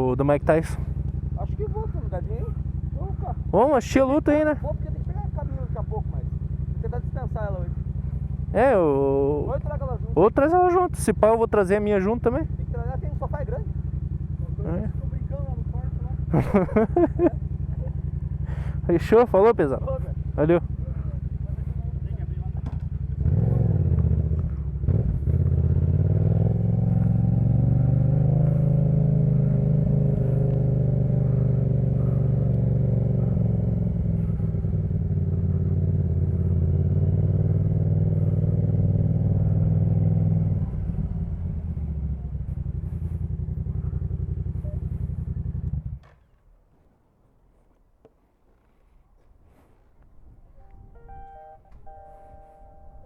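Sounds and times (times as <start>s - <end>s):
motorcycle engine running: 0.0s - 46.6s, 50.2s - 53.0s.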